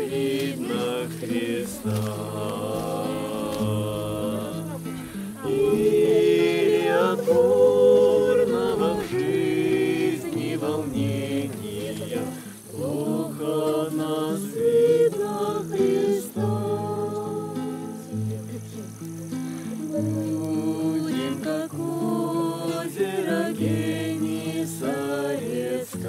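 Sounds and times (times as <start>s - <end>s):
group of people singing: 0.0s - 19.0s, 19.9s - 26.0s
strummed acoustic guitar: 0.0s - 26.0s.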